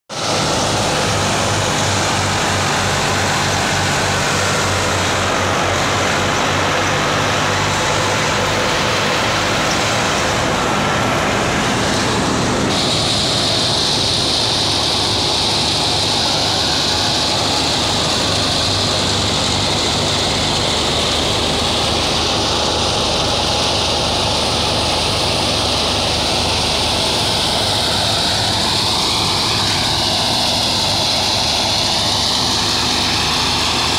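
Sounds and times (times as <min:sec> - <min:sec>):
threshing drum whirring hiss: 0:00.1 - 0:33.9
tractor engine drone: 0:00.1 - 0:33.9.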